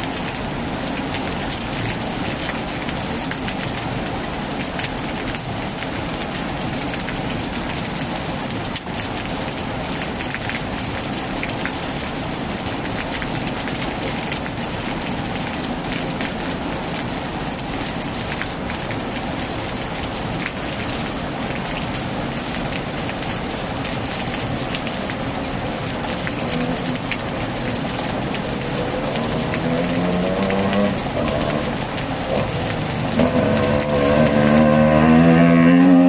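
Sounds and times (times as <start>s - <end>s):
heavy rain on a tin roof: 0.0s - 36.0s.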